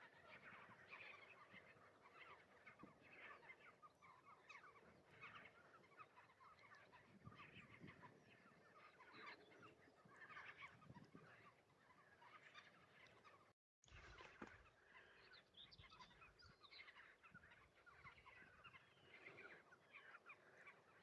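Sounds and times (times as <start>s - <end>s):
distant flock of birds chattering: 0.0s - 21.0s.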